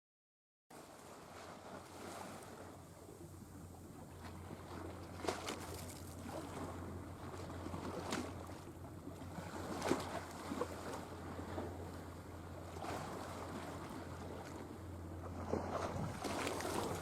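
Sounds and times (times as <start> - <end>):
sea waves splashing: 0.8 - 17.0.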